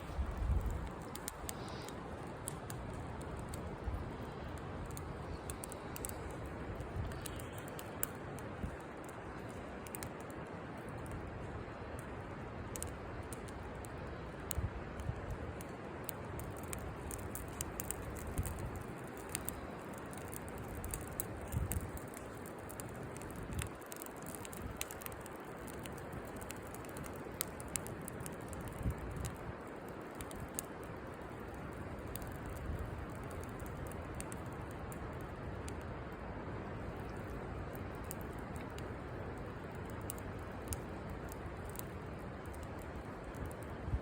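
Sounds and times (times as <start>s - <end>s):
campfire crackling and popping: 0.0s - 44.0s.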